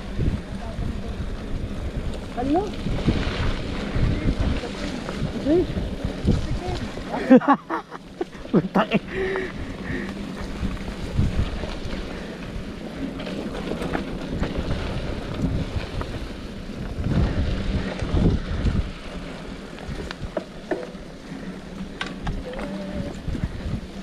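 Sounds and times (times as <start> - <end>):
bike rumbling on dirt trail: 0.0 - 24.0
wind buffeting microphone: 0.0 - 24.0.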